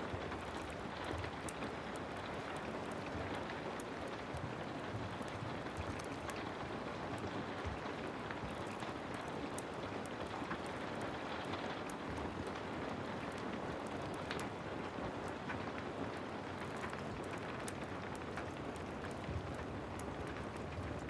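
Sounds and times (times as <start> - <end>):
heavy rain falling: 0.0 - 21.0
wood fire crackling: 0.0 - 21.0.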